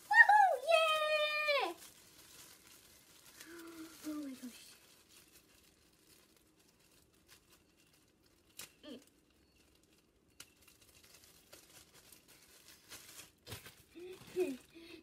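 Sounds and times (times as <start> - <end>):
packaging handling: 0.0 - 14.7.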